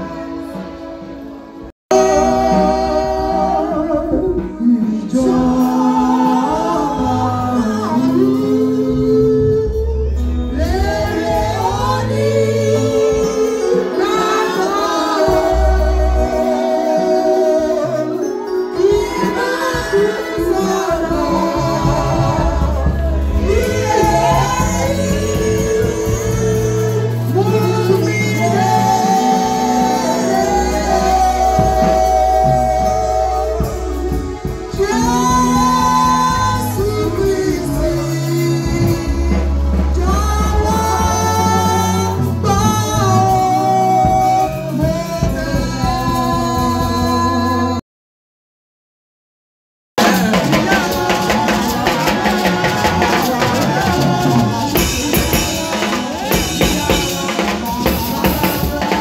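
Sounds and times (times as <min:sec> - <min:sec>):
instrumental backing with bass: 0:00.0 - 0:47.8, 0:50.0 - 0:59.0
woman singing gospel song: 0:01.9 - 0:47.8, 0:50.0 - 0:59.0.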